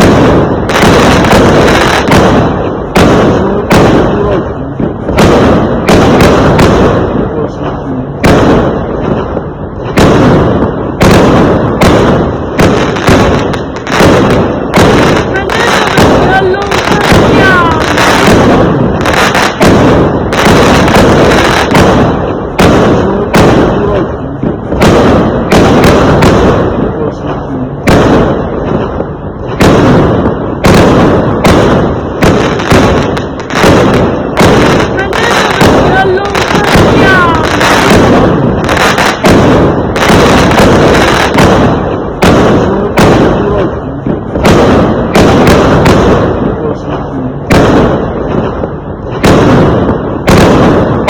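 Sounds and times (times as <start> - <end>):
fireworks bangs with crackle: 0.0 - 51.0.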